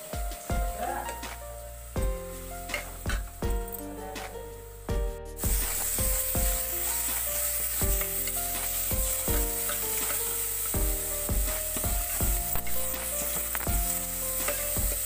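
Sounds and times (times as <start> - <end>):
background music with steady beat: 0.0 - 15.0
vegetables sizzling in a pot: 0.0 - 15.0.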